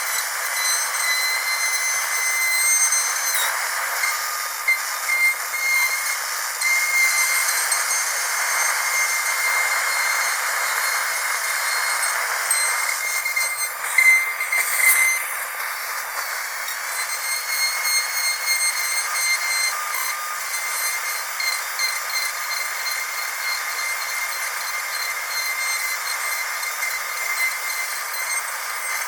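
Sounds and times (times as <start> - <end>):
dentist's drill whining: 0.0 - 29.0.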